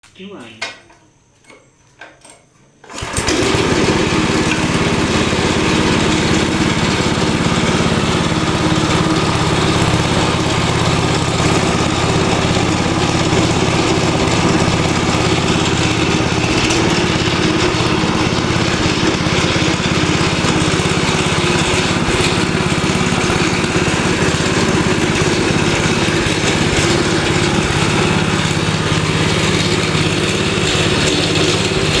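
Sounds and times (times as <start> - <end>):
machine humming and clattering: 2.9 - 32.0.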